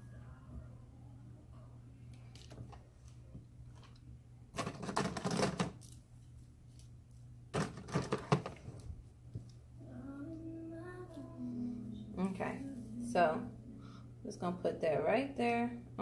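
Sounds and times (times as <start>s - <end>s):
steady low hum: 0.0s - 4.7s, 5.8s - 16.0s.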